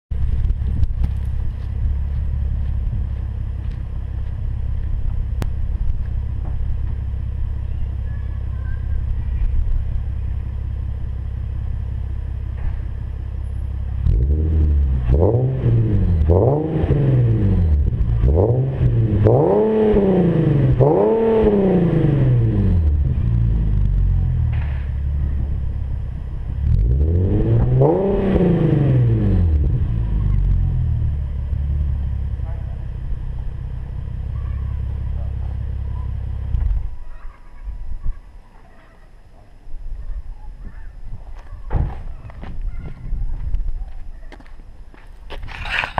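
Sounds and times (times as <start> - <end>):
car engine idling and revving: 0.1 - 37.6.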